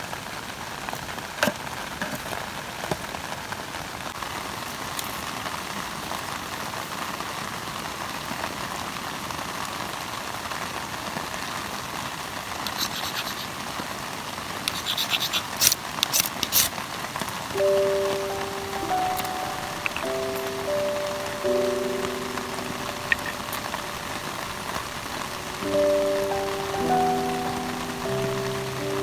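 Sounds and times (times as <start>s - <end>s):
rain falling on a tarp: 0.0s - 29.0s.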